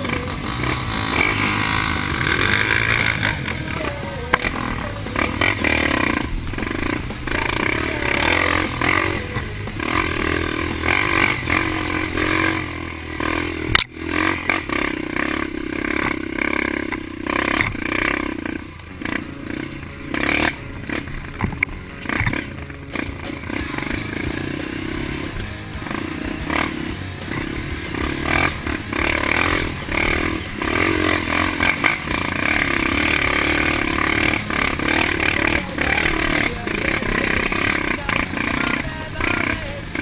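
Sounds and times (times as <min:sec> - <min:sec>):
off-road vehicle engines revving: 0:00.0 - 0:40.0.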